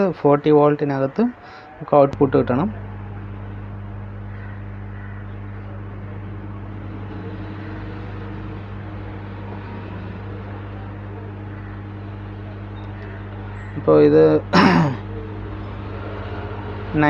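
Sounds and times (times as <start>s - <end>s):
mains hum: 0.0s - 17.0s.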